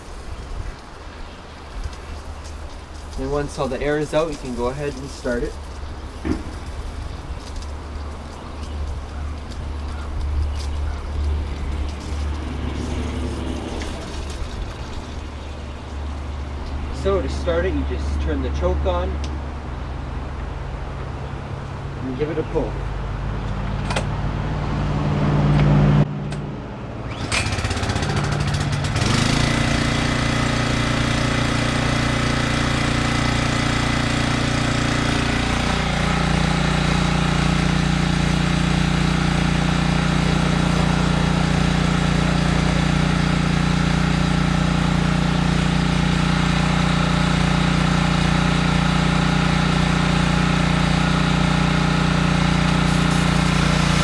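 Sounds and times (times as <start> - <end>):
pressure washer engine running: 1.1 - 19.0, 27.0 - 54.0.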